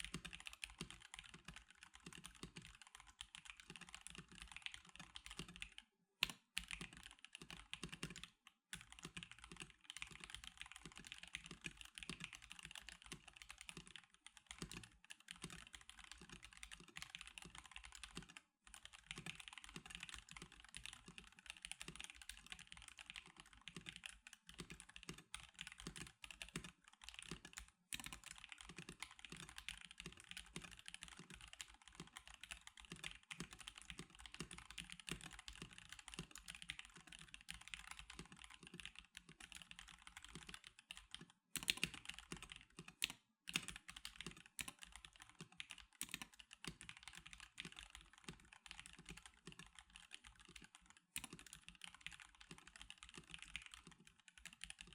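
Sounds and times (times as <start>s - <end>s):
fast mechanical keyboard typing: 0.0s - 54.9s.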